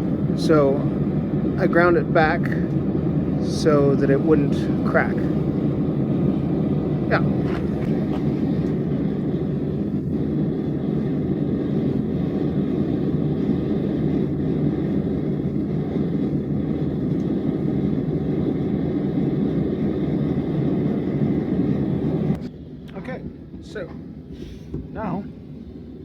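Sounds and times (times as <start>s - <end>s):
forge burner roaring: 0.0s - 26.0s.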